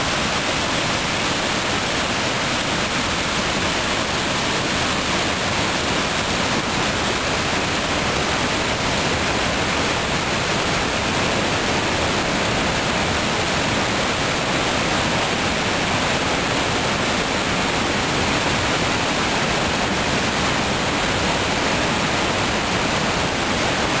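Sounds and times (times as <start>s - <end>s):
floodwater rushing over weir: 0.0s - 24.0s.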